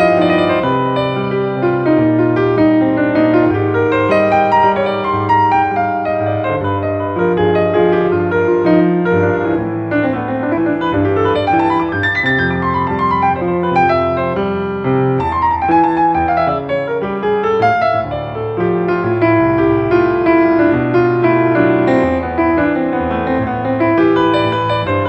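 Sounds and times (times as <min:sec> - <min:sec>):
solo piano melody: 0:00.0 - 0:25.0.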